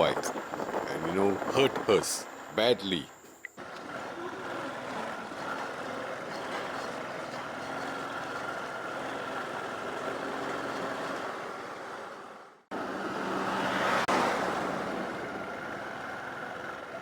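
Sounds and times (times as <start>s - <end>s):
motorbike engine drone: 0.0s - 17.0s
road and wind noise: 0.0s - 17.0s.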